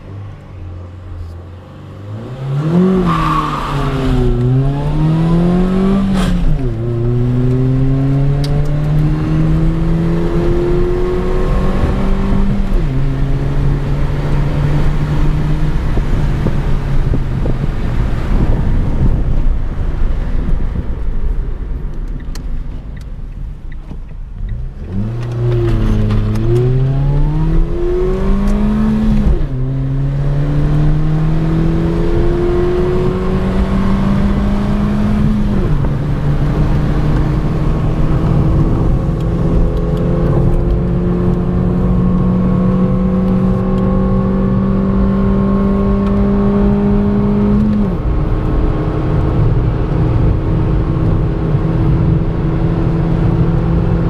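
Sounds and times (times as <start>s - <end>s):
car engine revving and accelerating: 0.0s - 20.1s, 24.4s - 54.0s.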